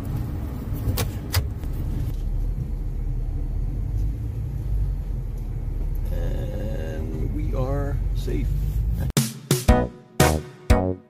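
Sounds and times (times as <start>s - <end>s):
vehicle engine rumbling: 0.0s - 9.2s.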